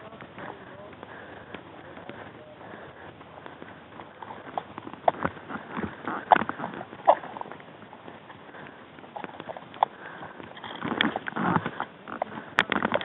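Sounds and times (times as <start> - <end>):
footsteps on dirt road: 0.0 - 13.0.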